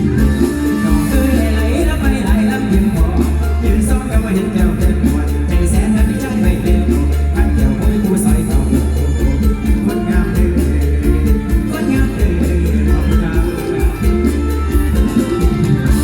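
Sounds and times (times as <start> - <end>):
heavy bass line: 0.0 - 16.0
live band music: 0.0 - 16.0
steady drum beat: 0.0 - 16.0.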